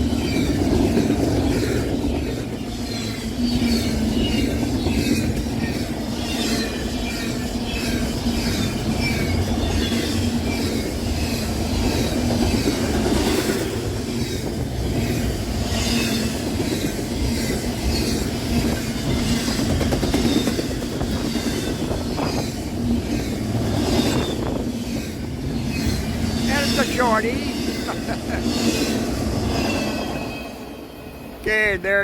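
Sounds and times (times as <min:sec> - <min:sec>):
train cars rolling on tracks: 0:00.0 - 0:32.0.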